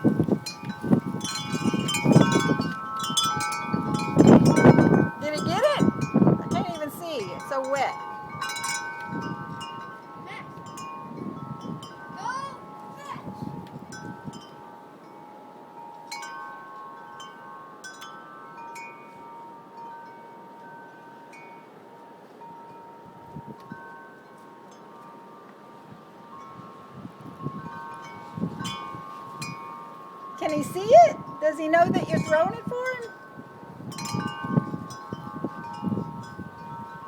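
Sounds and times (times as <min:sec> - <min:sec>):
wind chimes ringing: 0:00.0 - 0:37.0.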